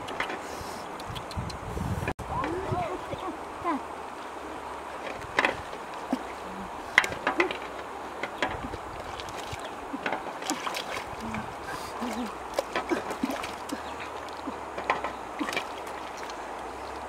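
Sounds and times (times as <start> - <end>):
shallow river flowing: 2.1 - 17.0.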